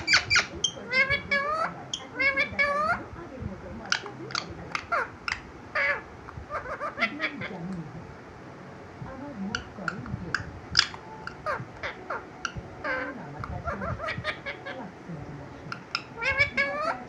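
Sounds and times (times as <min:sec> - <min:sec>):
parakeet chattering: 0:00.0 - 0:08.1, 0:09.3 - 0:17.0.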